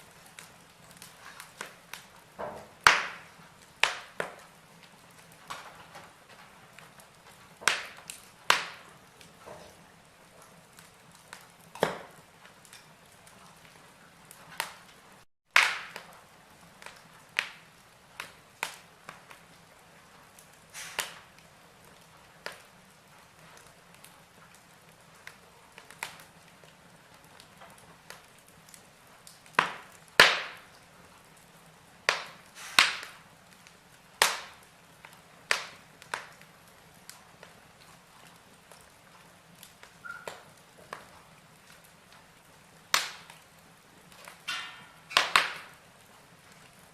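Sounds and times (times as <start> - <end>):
log fire crackling: 0.0 - 46.9.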